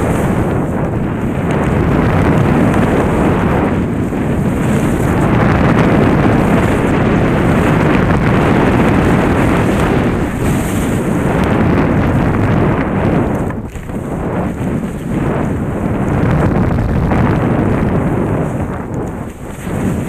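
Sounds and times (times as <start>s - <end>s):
skis scraping over snow: 0.0s - 20.0s
wind buffeting microphone: 0.0s - 20.0s.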